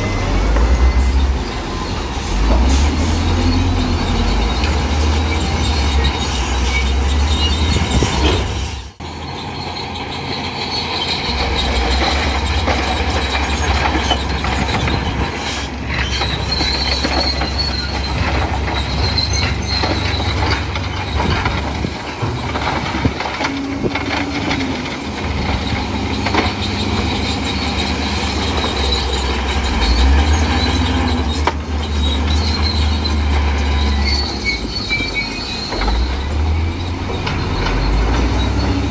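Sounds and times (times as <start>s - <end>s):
diesel engine running under load: 0.0s - 38.9s
steel tracks squealing: 0.0s - 38.9s.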